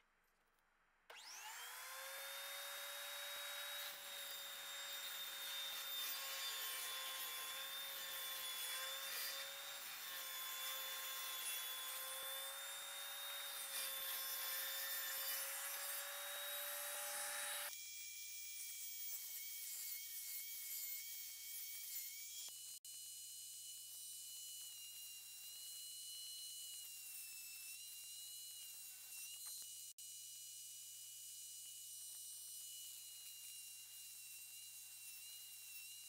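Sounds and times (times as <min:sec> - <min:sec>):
table saw whining: 0:01.1 - 0:36.0.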